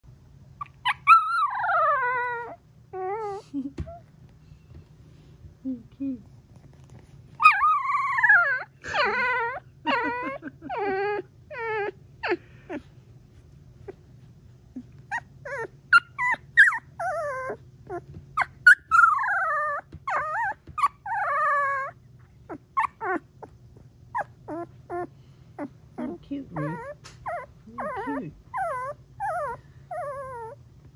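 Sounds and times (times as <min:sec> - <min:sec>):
puppy trilling whimper calls: 0:00.6 - 0:04.1, 0:07.4 - 0:12.8, 0:14.8 - 0:30.6.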